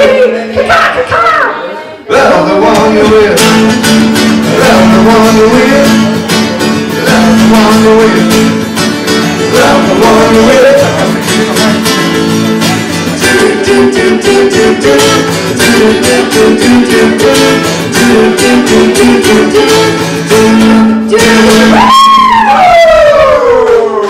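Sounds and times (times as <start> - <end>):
pop-rock song: 2.1 - 22.7
acoustic guitar strumming: 2.1 - 24.0.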